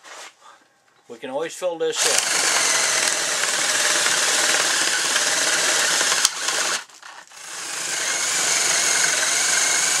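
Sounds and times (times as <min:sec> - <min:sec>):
electric drill boring into wood: 0:02.0 - 0:10.0.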